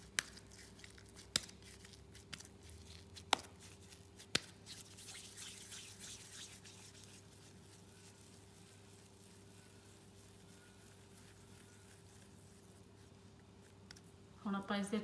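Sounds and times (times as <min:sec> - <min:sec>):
hands squishing dough: 0:00.0 - 0:14.2.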